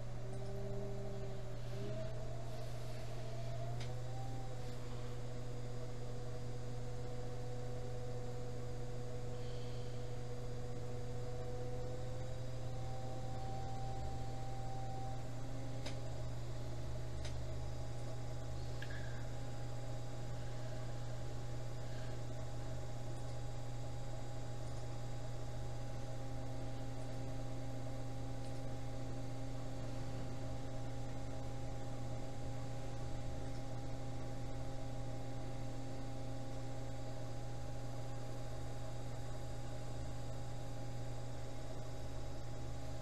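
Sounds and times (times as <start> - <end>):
potter's wheel motor humming: 0.0 - 43.0.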